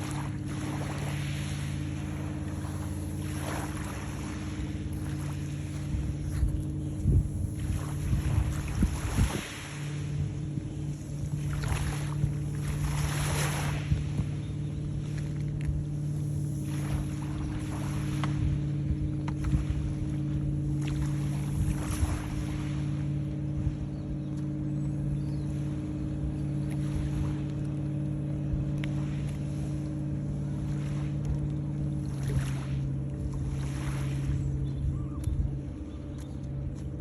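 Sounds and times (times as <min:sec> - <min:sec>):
motor humming: 0:00.0 - 0:37.0.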